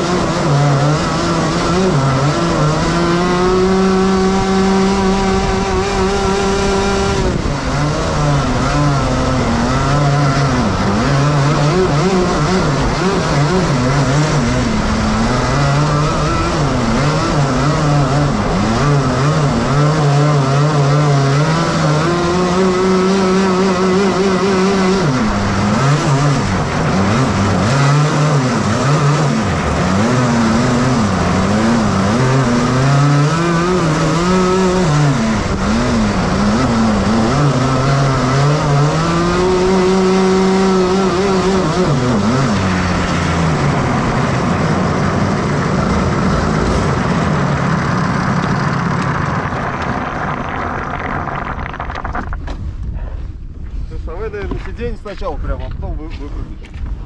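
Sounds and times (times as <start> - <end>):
kart engines revving: 0.0 - 52.5.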